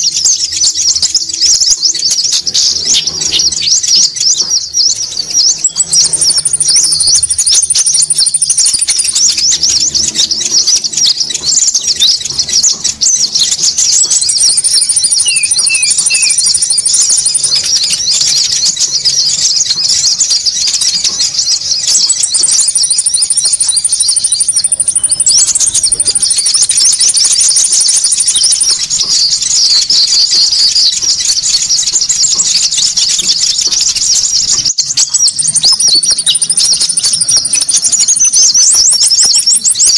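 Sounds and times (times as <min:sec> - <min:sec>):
bird chirps chattering: 0:00.0 - 0:39.9.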